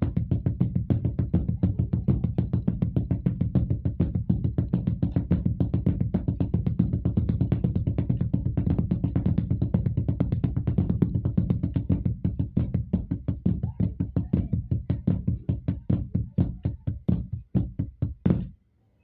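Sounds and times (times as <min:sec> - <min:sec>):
fast drum strokes with flams: 0:00.0 - 0:18.5.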